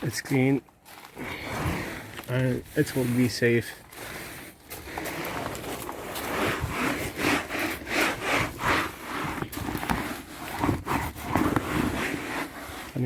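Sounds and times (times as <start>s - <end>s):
surface being scrubbed by hand: 1.2s - 13.0s.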